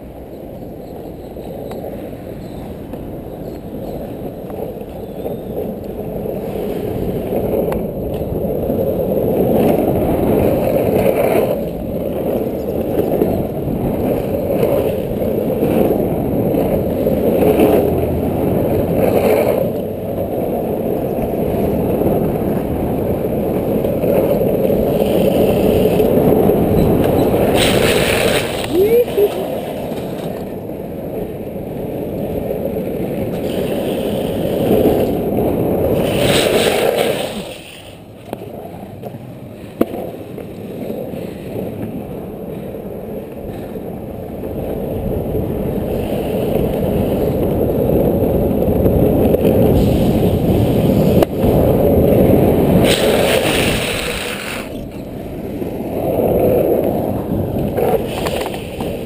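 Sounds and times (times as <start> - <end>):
skateboard wheels rolling on asphalt: 0.0 - 59.0
wind rushing over camera: 0.0 - 59.0.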